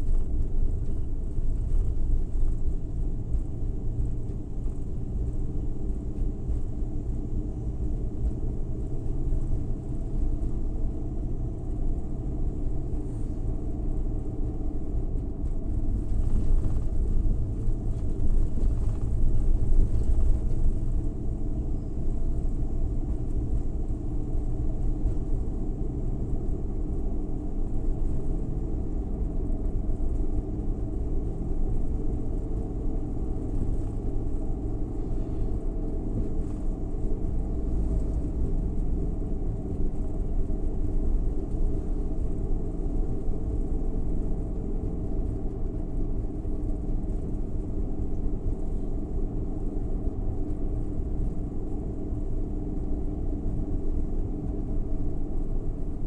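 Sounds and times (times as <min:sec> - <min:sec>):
road noise: 0:00.0 - 0:56.0
van engine rumble: 0:00.0 - 0:56.0.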